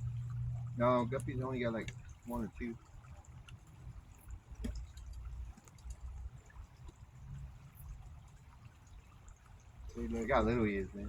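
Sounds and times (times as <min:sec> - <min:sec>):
faint creek water trickling: 0:00.0 - 0:11.0
small ticks: 0:00.0 - 0:11.0.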